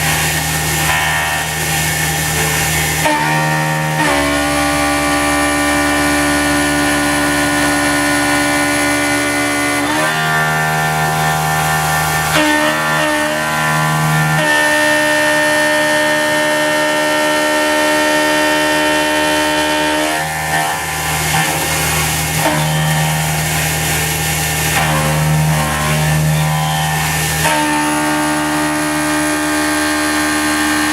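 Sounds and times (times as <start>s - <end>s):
mill cutting whine: 0.0s - 30.9s.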